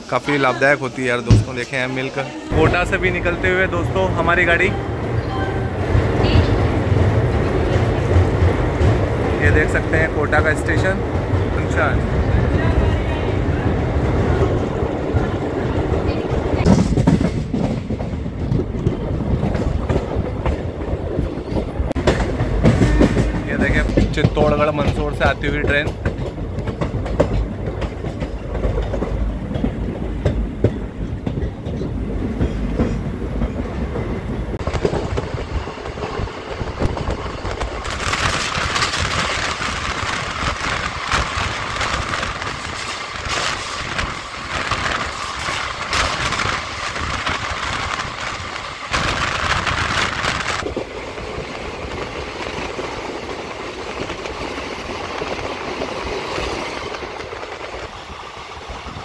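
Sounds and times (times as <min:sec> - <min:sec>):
steady train rumble: 0:00.0 - 0:59.0
wheels clattering on rails: 0:01.1 - 0:59.0.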